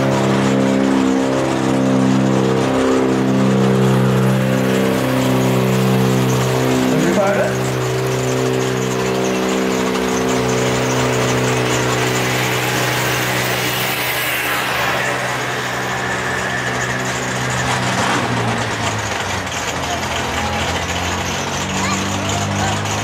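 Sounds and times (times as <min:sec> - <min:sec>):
drag race car engines: 0:00.0 - 0:23.0
race car pulling away: 0:00.0 - 0:23.0.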